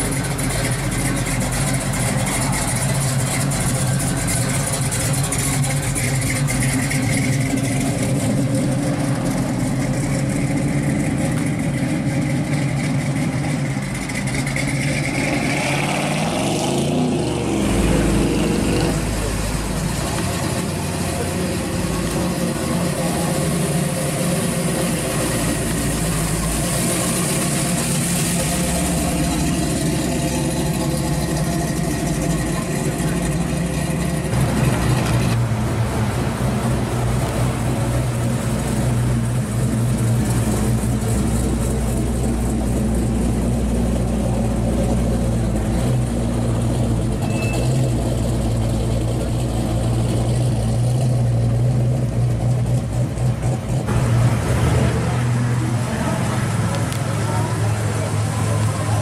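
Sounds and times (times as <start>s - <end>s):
car driving slowly past: 0.0s - 59.0s
car rolling and pulling away: 0.0s - 59.0s
muscle car engines running: 0.0s - 59.0s.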